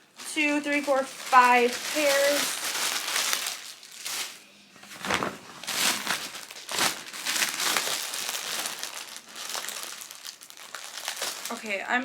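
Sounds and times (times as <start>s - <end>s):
packaging crinkling and rustling: 0.0s - 11.9s.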